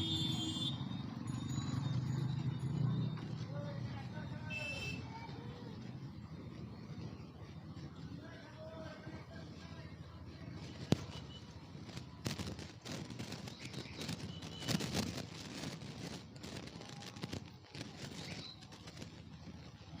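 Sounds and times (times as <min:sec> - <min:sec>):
muffled road and wind noise: 0:00.0 - 0:20.0.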